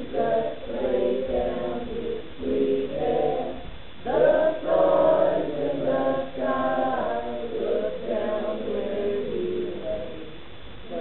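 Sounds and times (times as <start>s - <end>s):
choir singing long notes: 0.0s - 11.0s.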